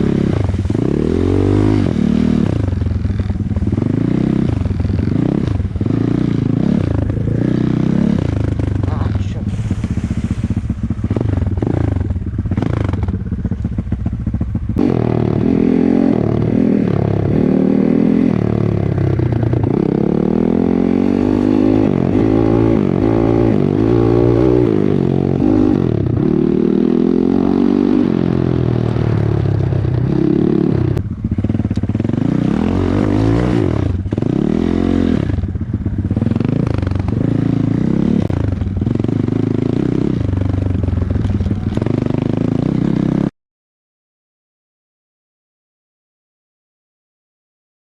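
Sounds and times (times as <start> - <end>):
off-road motorcycle engine revving: 0.0 - 43.3.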